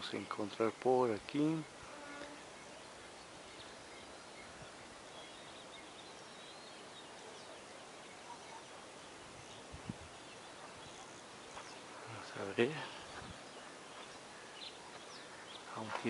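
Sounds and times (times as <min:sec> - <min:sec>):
faint distant bird chirps: 0:00.0 - 0:16.0
steady background hiss: 0:00.0 - 0:16.0.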